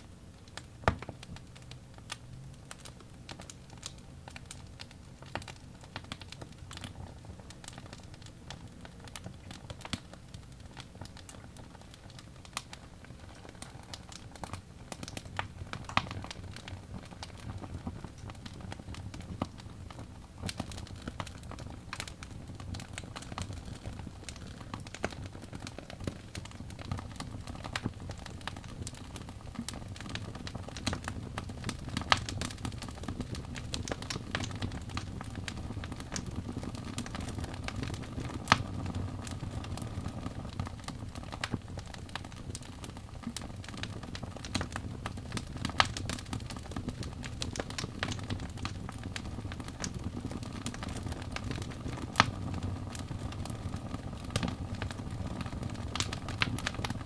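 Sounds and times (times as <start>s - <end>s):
fire crackling in fireplace: 0.0s - 57.0s
sharp pops from fire: 0.4s - 57.0s.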